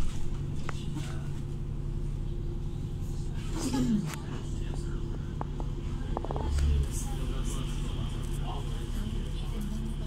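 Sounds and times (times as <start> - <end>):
bus engine drone: 0.0 - 10.0
road noise: 0.0 - 10.0.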